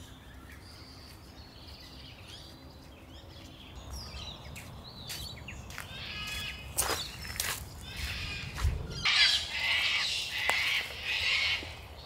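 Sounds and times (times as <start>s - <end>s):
small birds chirping and warbling: 0.0s - 12.0s.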